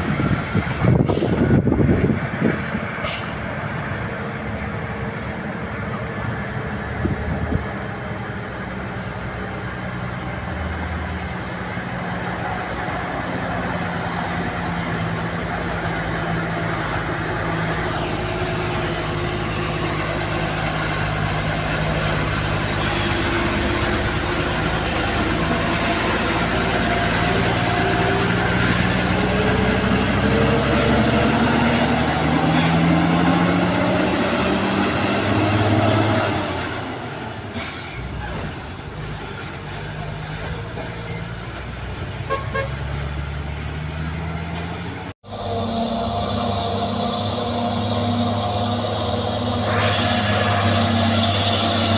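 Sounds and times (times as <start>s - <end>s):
heavy truck engine running: 0.0s - 51.9s.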